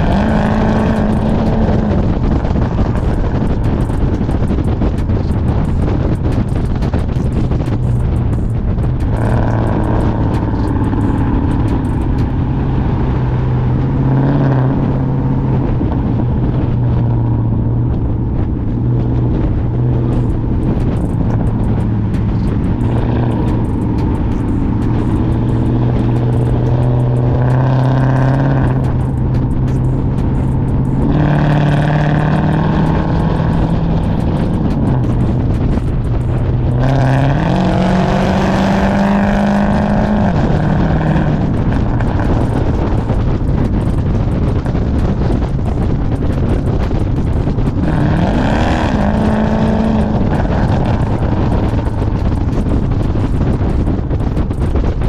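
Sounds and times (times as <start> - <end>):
car engine through loud exhaust: 0.0 - 55.0.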